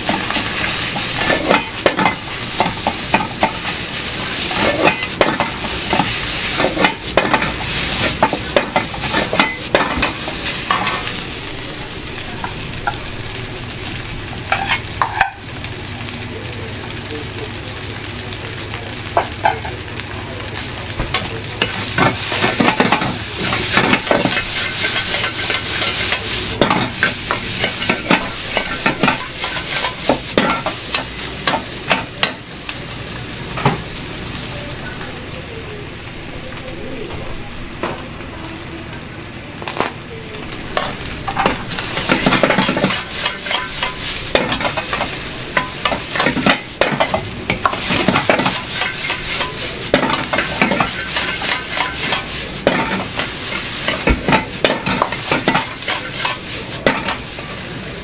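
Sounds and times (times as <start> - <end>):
rice sizzling in a wok: 0.0 - 58.0.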